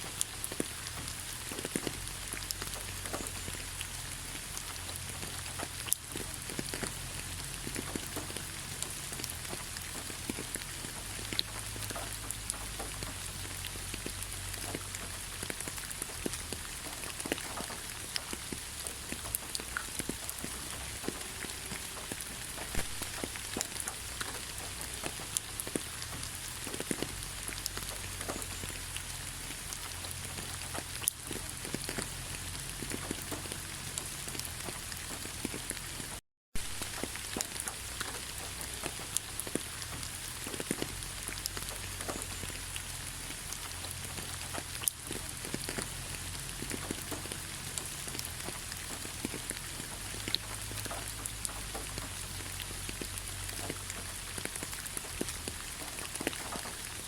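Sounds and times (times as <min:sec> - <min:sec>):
raindrops ticking: 0:00.0 - 0:57.0
steady rain hiss: 0:00.0 - 0:57.0.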